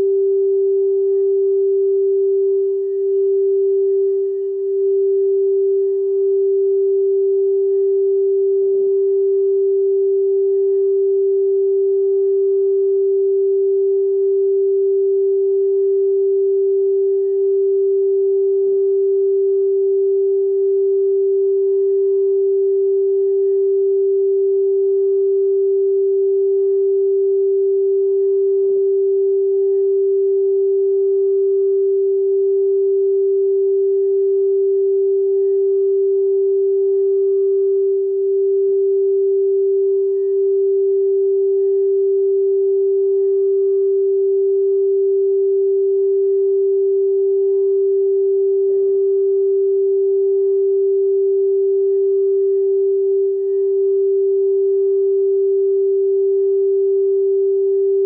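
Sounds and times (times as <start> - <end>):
crystal singing bowl tone: 0.0 - 58.0.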